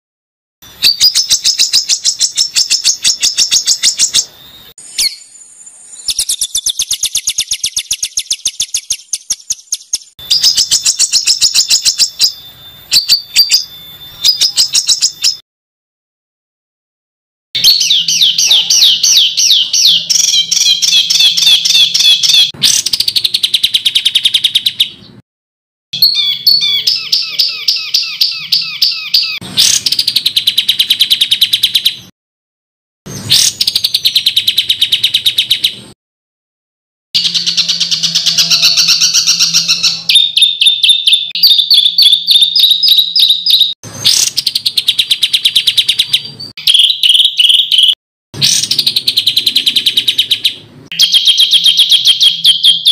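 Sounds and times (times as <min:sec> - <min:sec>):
songbird rapid harsh notes: 0:00.6 - 0:15.4, 0:17.6 - 0:25.2, 0:26.0 - 0:32.1, 0:33.1 - 0:36.0, 0:37.2 - 0:52.9.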